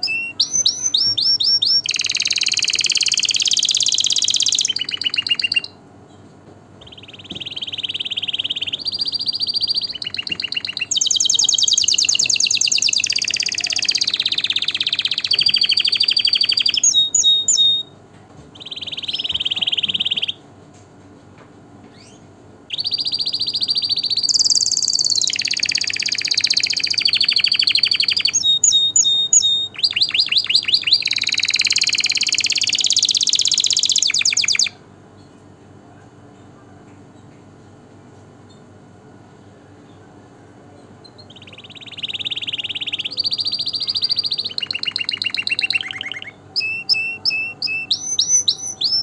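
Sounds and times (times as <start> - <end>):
canary singing trills: 0.0 - 6.2, 6.8 - 20.4, 21.9 - 35.4, 39.8 - 49.0.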